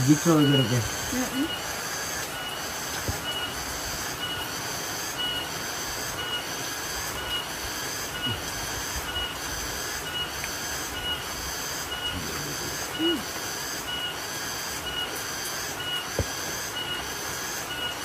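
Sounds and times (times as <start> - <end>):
cicada calling: 0.0 - 18.0
rain hiss: 0.0 - 18.0.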